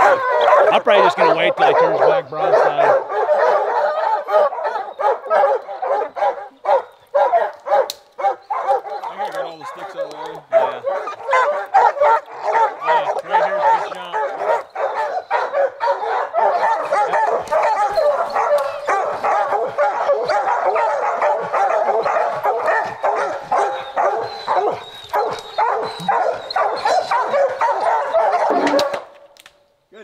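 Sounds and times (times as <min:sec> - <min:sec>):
hounds barking and baying: 0:00.0 - 0:29.2.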